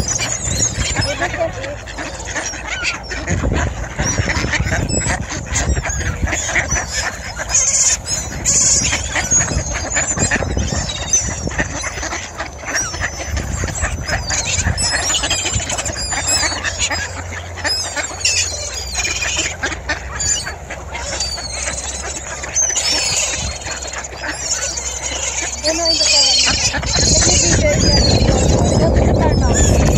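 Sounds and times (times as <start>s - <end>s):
ducks quacking: 0.0s - 29.9s
gulls calling: 0.0s - 29.9s.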